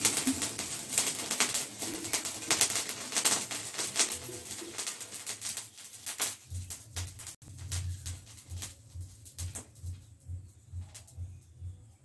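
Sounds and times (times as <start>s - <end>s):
chemical fire crackling and popping: 0.0s - 12.0s.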